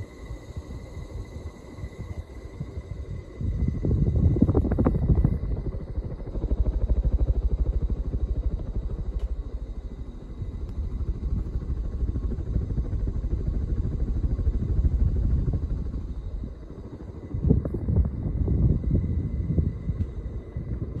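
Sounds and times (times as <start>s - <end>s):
ceiling fan running: 0.4s - 21.0s.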